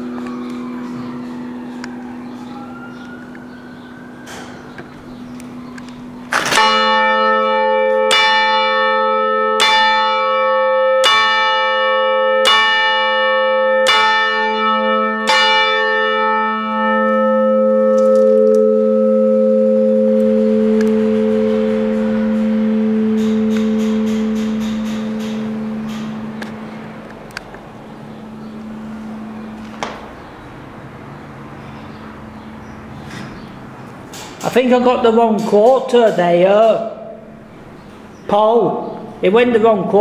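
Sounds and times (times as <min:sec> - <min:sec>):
bell humming: 0:00.0 - 0:32.8
church bell struck by hammer: 0:00.0 - 0:33.5.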